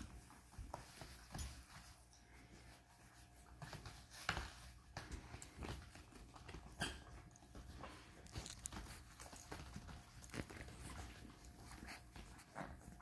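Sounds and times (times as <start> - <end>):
puppy paws tapping on pads: 0.0 - 13.0.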